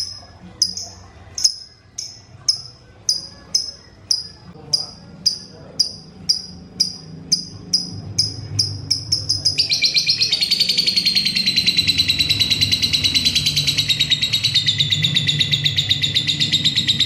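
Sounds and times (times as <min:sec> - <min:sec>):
lovebird chirping trill: 0:00.0 - 0:17.0.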